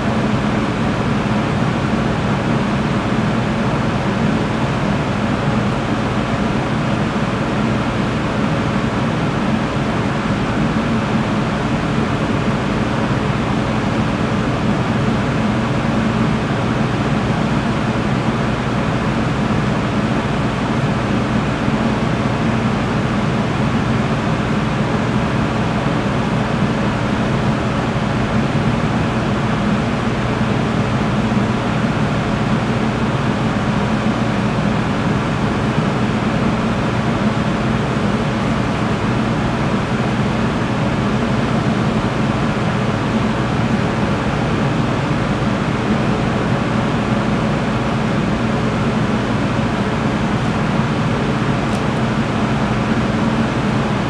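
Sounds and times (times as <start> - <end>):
ventilation fan humming: 0.0 - 54.0.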